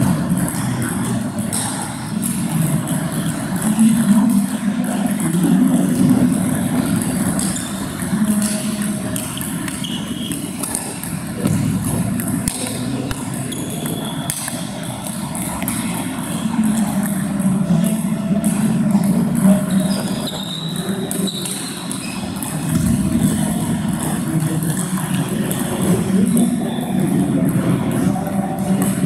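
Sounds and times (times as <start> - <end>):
table tennis balls clicking: 0.2 - 29.0.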